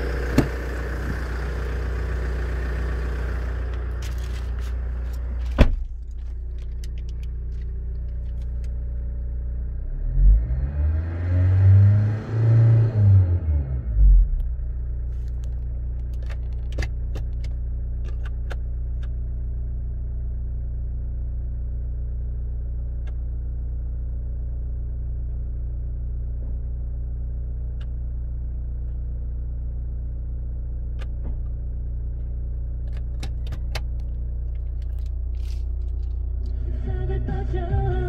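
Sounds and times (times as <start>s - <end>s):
diesel engine idling: 0.0s - 10.0s, 14.2s - 38.0s.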